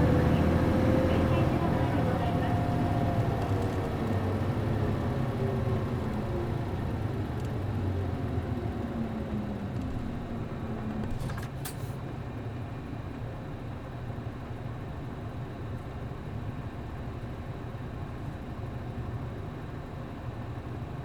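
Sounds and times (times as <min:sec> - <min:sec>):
bus diesel engine slowing: 0:00.0 - 0:20.9.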